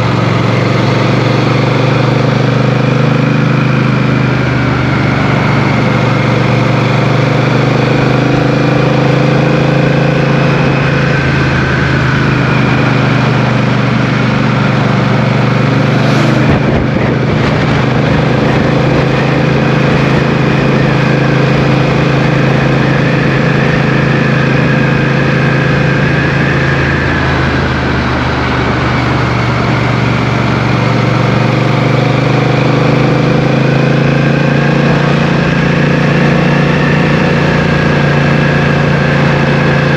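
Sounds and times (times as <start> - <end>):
motorcycle engine cruising: 0.0 - 39.9
road noise: 0.0 - 39.9
rushing wind: 0.0 - 39.9.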